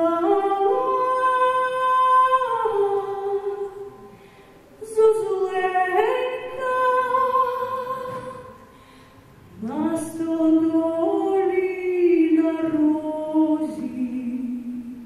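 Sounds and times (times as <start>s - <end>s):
woman singing unaccompanied: 0.0s - 4.1s, 4.8s - 8.6s, 9.6s - 15.0s.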